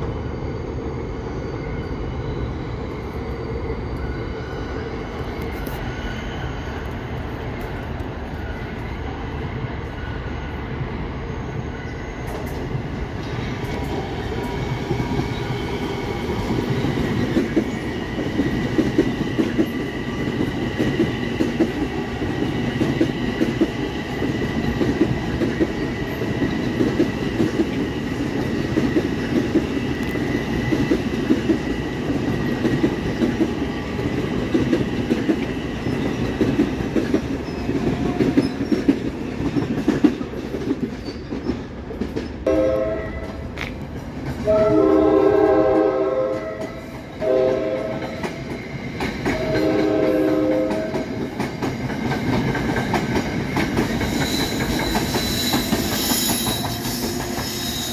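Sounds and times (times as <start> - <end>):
train rumbling past: 0.0 - 57.9.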